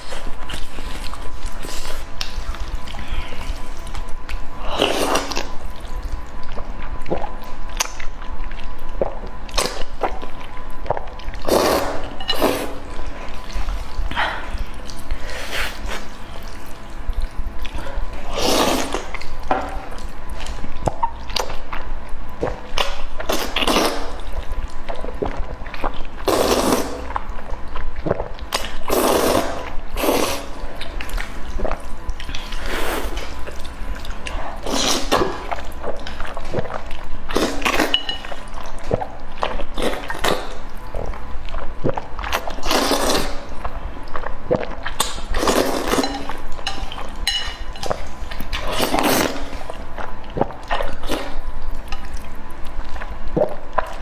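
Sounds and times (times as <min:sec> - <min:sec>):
wet chewing and slurping: 0:00.0 - 0:54.0.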